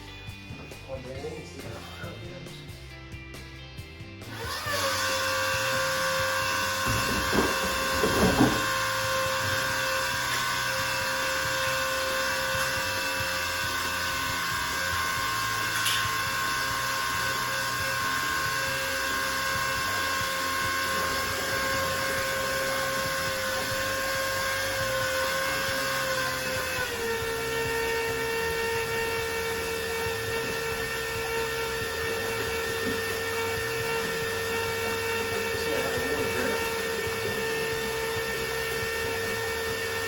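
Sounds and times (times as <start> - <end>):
pump motor whine: 4.2 - 40.0.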